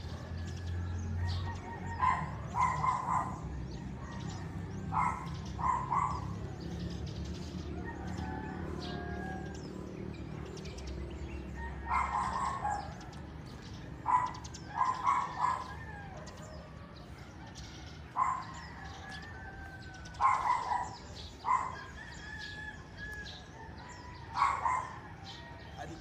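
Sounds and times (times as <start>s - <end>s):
roosters crowing: 0.0s - 26.0s
small birds chirping faintly: 0.0s - 26.0s.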